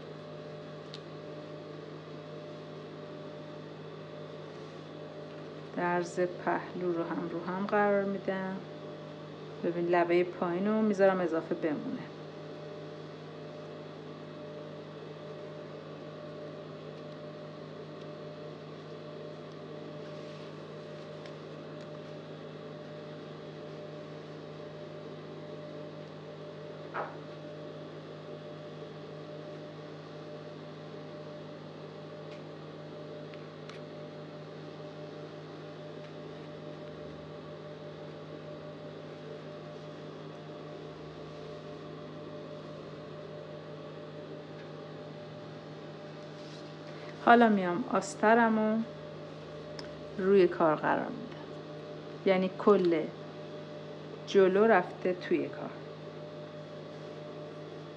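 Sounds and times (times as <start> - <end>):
steady electric hum: 0.0 - 57.9.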